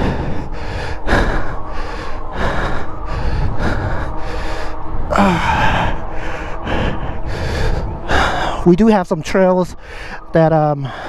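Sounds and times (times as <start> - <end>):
person breathing hard: 0.0 - 8.7, 9.8 - 11.0
low wind rumble: 0.0 - 11.0.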